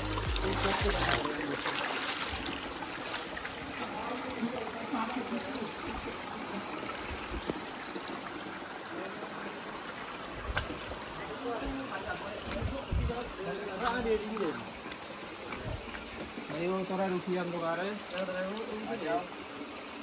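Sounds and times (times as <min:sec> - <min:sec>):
stream trickling over stones: 0:00.0 - 0:20.0.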